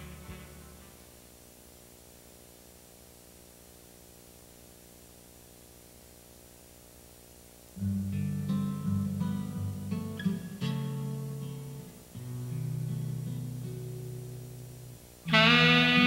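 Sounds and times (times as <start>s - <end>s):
faint steady hiss: 0.0s - 16.0s
low electrical hum: 0.0s - 16.0s.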